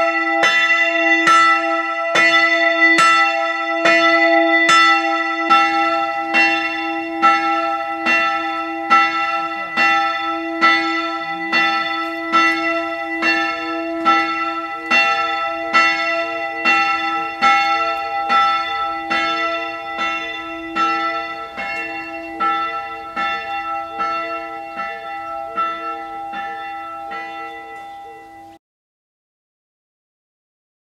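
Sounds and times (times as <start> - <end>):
church bell ringing: 0.0 - 28.6.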